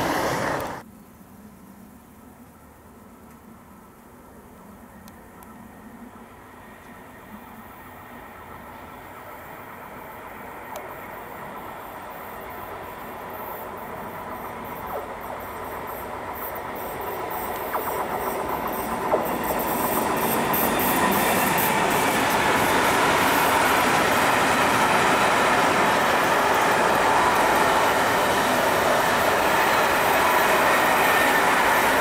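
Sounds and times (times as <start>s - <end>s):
train wheels rolling on rails: 0.0s - 0.8s, 6.3s - 32.0s.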